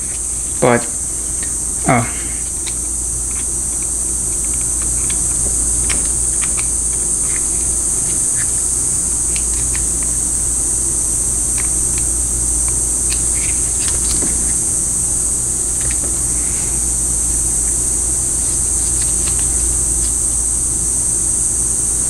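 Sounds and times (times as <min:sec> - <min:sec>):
high-pitched hiss: 0:00.0 - 0:22.0
low hum: 0:00.0 - 0:22.0.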